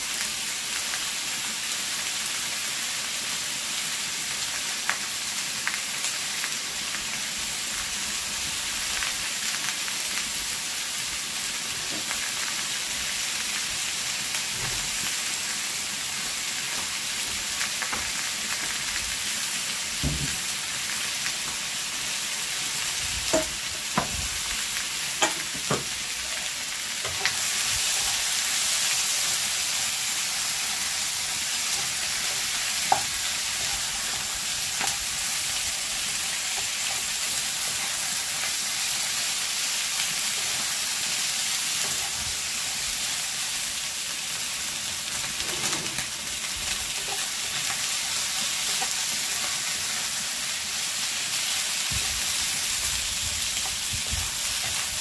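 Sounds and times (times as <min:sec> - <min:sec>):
chicken sizzling in a pot: 0:00.0 - 0:55.0.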